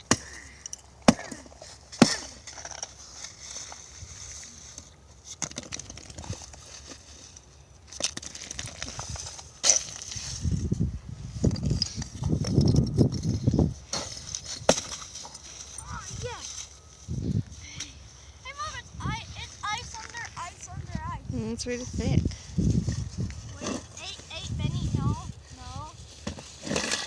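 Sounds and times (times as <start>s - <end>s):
ice crunching and scraping: 1.1s - 27.0s.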